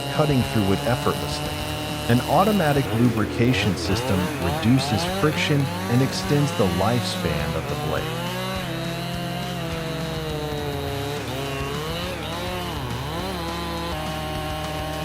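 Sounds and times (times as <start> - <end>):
chainsaw running: 0.0 - 15.0.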